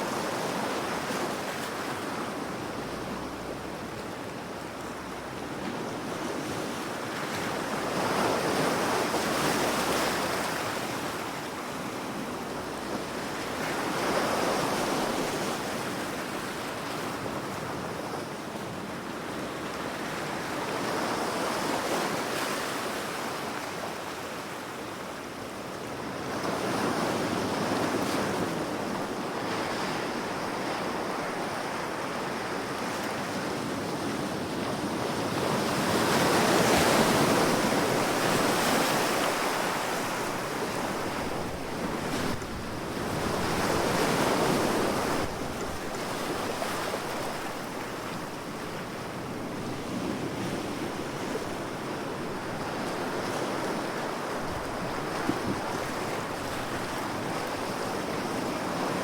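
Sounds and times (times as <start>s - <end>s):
wind: 0.0s - 59.0s.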